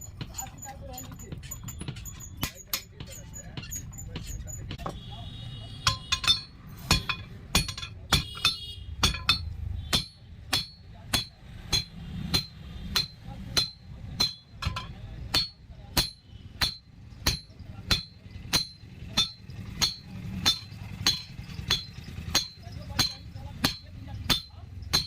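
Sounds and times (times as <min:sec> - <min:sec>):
hammer striking steel on anvil: 0:00.2 - 0:05.0, 0:05.8 - 0:25.0.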